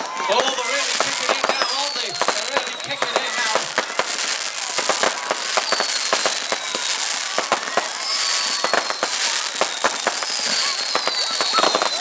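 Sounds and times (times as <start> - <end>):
fireworks bangs and crackles: 0.0 - 12.0
high firework whistles: 0.0 - 12.0.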